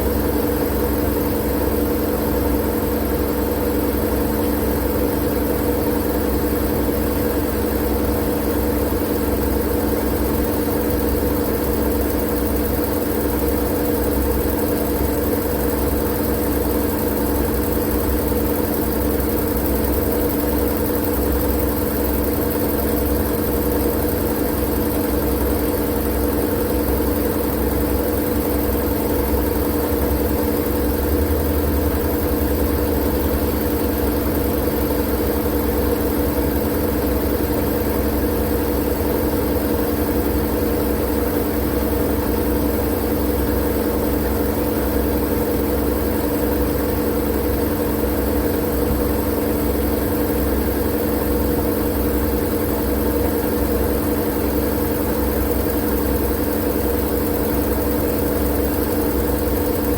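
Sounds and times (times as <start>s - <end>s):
machine-like white noise hum: 0.0s - 59.9s.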